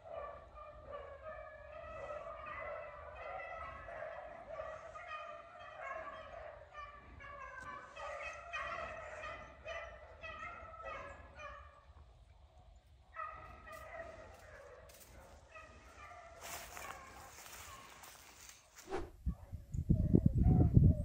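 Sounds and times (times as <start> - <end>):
dogs baying: 0.0 - 11.9, 13.1 - 18.2.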